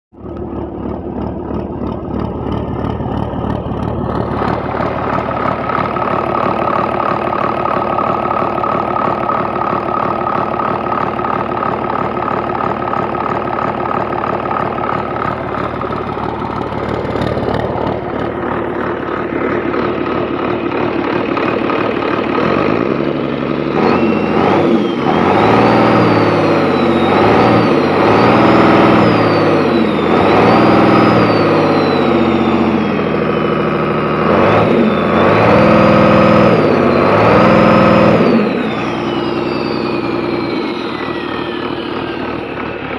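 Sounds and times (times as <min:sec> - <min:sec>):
diesel truck engine revving: 0:00.3 - 0:42.9.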